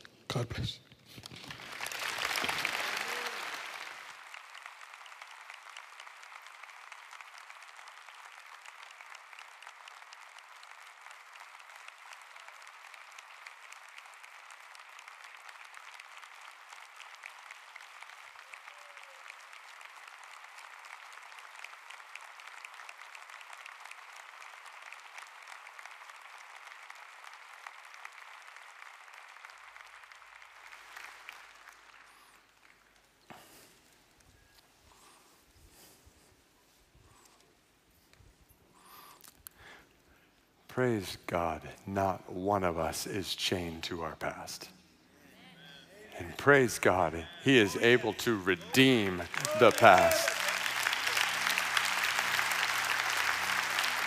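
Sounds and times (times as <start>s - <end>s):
congregation applauding: 1.1s - 36.0s, 40.7s - 44.7s, 45.4s - 54.0s.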